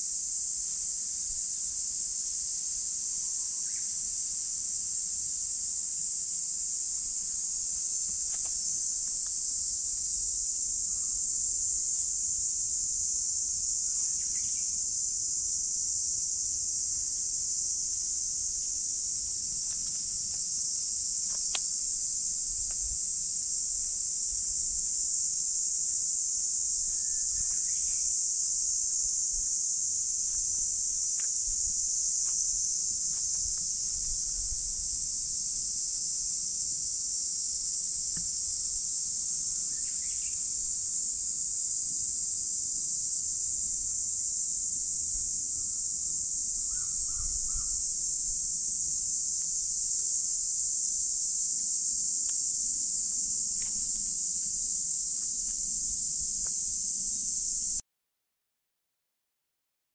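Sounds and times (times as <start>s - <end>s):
insect chorus drone: 0.0s - 57.8s.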